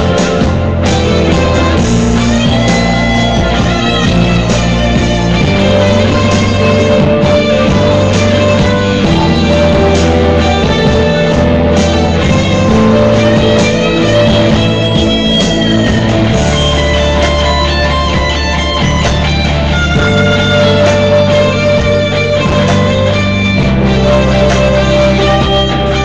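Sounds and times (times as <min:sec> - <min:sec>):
loud rock guitar jam: 0:00.0 - 0:26.0
sustained low notes: 0:00.0 - 0:26.0.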